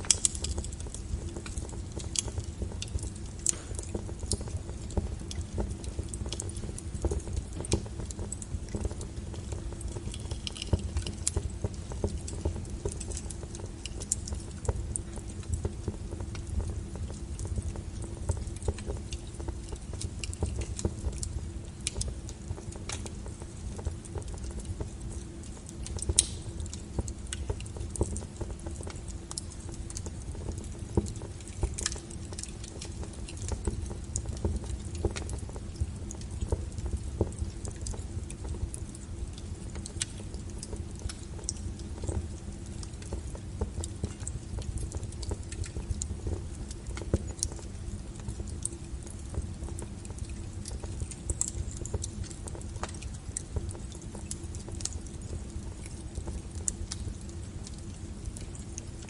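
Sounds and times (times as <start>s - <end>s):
low rumble of burning fire: 0.0s - 59.0s
wood fire crackling: 0.0s - 59.0s.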